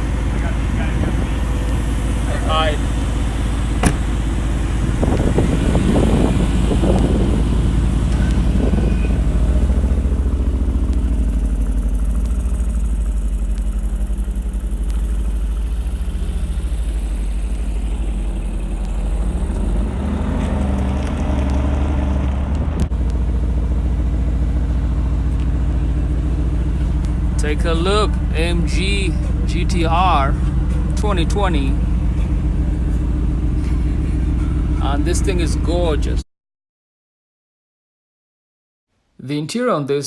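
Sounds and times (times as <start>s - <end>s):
sports car engine idling: 0.0s - 36.2s.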